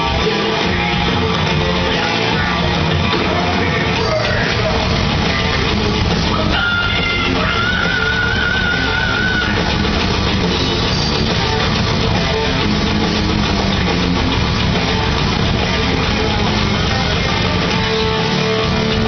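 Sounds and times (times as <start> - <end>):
heavy metal band playing live: 0.0 - 19.0.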